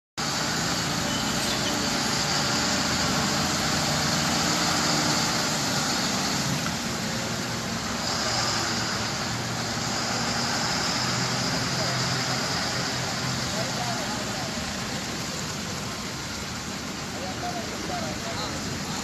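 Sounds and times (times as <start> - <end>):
heavy truck engine running: 0.2 - 19.0
road traffic noise: 0.2 - 19.0.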